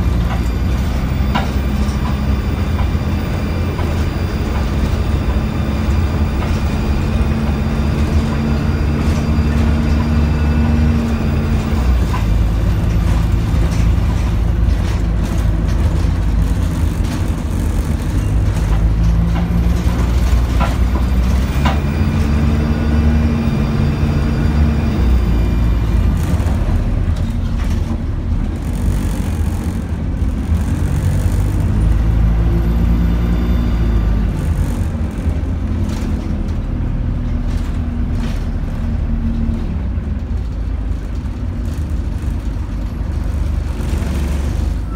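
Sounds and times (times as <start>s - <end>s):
bus engine rumble: 0.0s - 44.9s
rattles and clicks: 0.0s - 44.9s
road noise: 0.0s - 44.9s.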